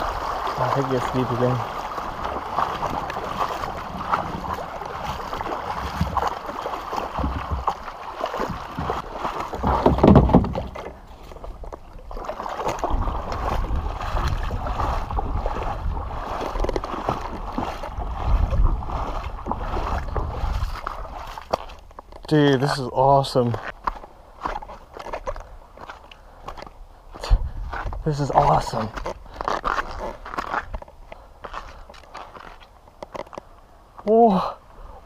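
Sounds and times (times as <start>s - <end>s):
water splashing around kayak: 0.0s - 33.5s.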